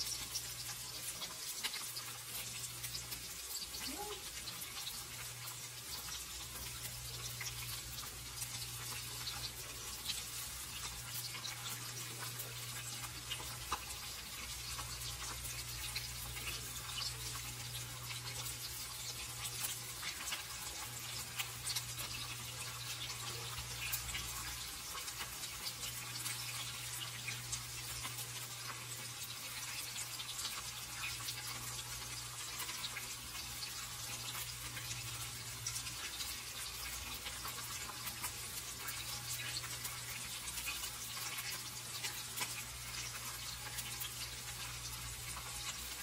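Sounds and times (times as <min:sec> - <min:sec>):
onions sizzling in oil: 0:00.0 - 0:46.0.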